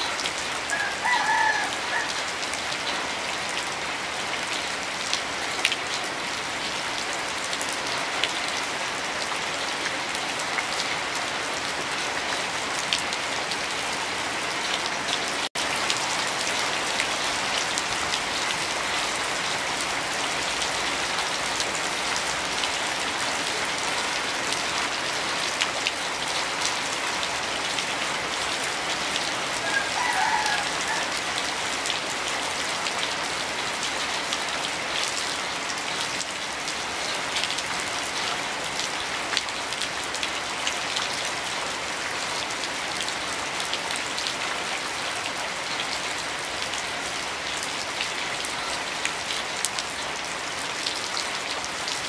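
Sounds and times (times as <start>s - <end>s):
heavy rain on a hard surface: 0.0s - 52.0s.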